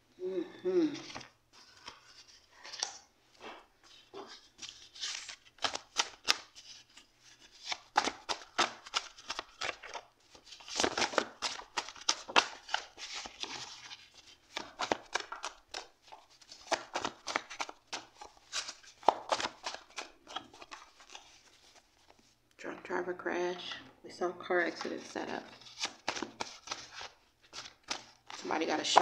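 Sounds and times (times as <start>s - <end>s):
paper cards shuffling: 0.9s - 22.4s, 24.7s - 29.0s.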